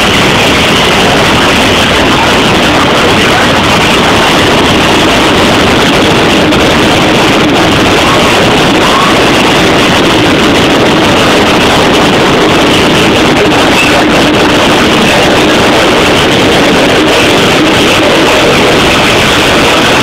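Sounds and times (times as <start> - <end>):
train rushing noise: 0.0 - 20.0
wind buffeting microphone: 0.0 - 20.0.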